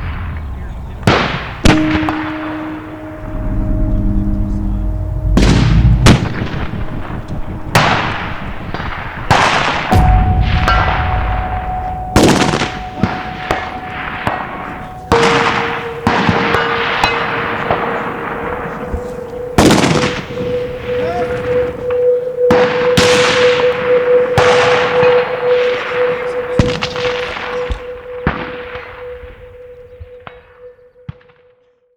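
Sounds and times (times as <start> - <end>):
steel targets ringing: 1.2 - 30.6.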